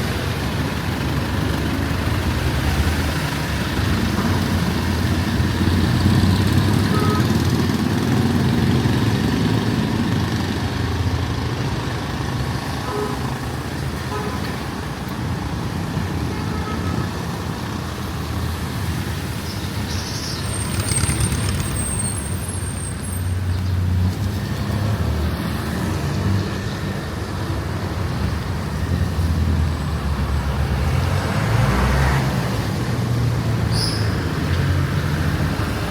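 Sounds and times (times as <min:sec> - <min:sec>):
heavy vehicles passing: 0:00.0 - 0:35.9.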